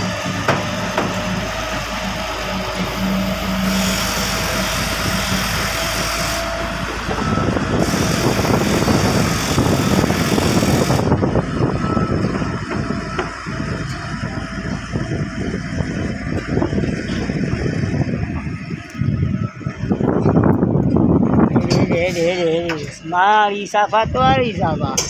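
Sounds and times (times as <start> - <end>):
rushing noise: 0.0 - 20.2
engine humming: 0.0 - 24.2.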